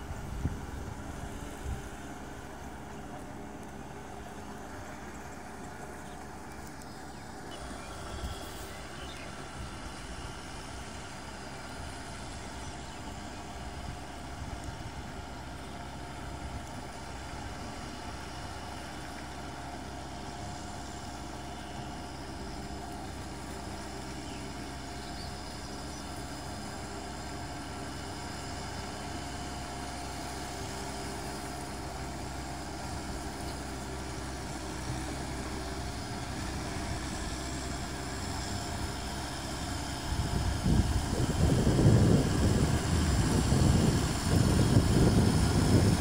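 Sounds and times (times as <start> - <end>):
distant tractor diesel engine: 0.0 - 46.0.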